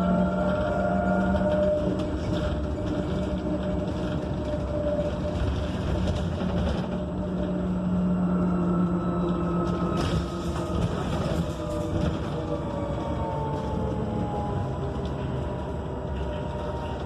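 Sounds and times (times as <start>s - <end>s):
road and tyre rumble: 0.0s - 17.0s.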